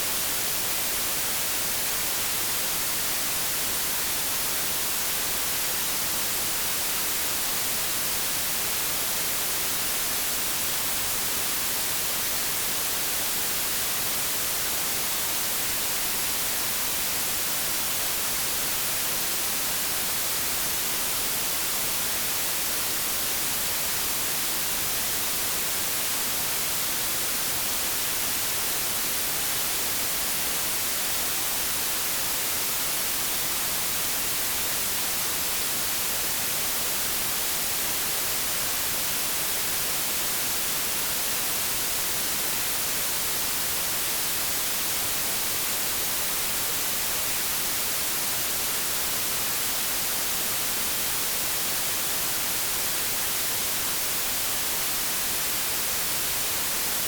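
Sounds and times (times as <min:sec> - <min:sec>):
white noise static hiss: 0:00.0 - 0:57.0.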